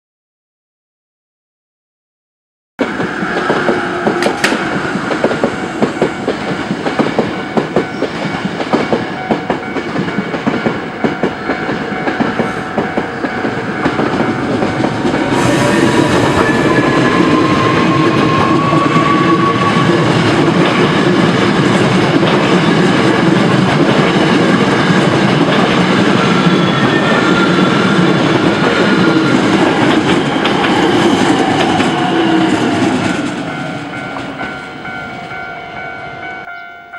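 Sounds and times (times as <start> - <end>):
train wheels clattering: 2.8 - 34.7
train rumble with rising whine: 2.8 - 36.3.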